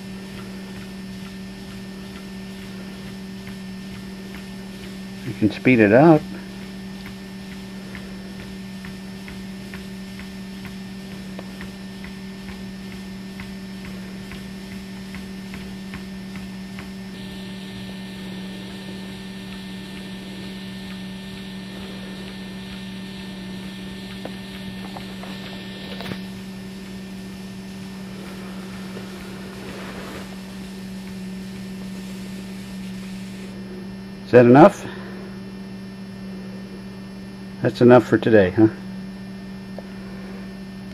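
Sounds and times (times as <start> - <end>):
treadmill running with electric hum: 0.0 - 40.9.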